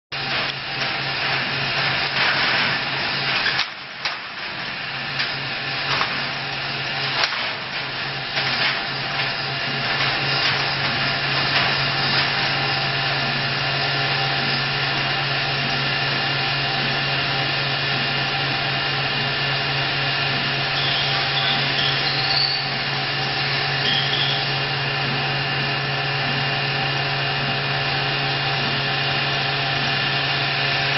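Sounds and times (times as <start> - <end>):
machine hum: 0.2 - 30.9.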